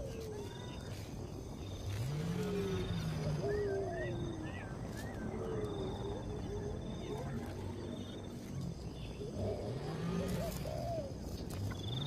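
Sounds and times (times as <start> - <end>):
wavering animal calls: 0.0 - 8.2, 9.0 - 12.0.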